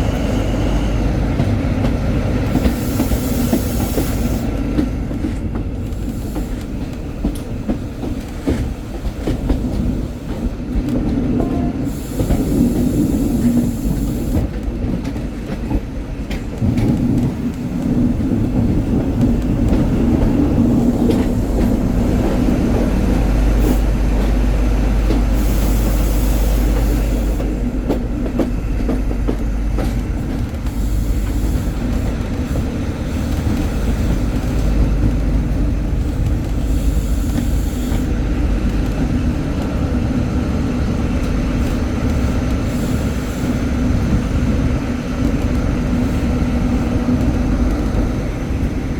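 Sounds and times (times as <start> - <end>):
rail joint clicks: 0.0 - 48.9
train wheels rumbling on rails: 0.0 - 48.9.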